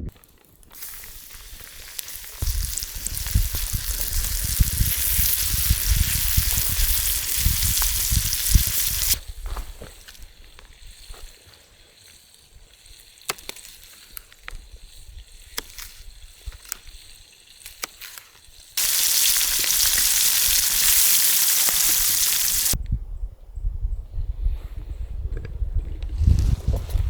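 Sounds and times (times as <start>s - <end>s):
fish sizzling in a pan: 0.1s - 22.8s.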